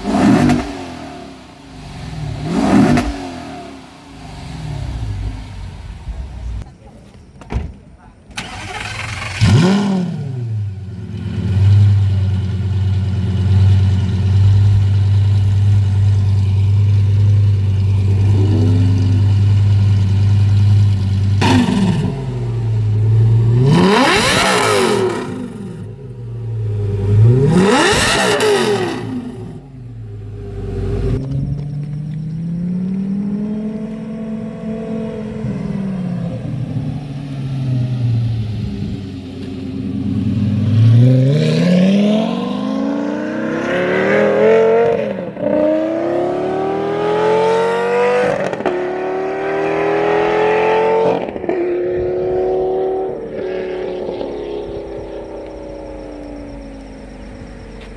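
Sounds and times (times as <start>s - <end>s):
car engine revving: 0.0s - 6.7s, 8.4s - 57.9s.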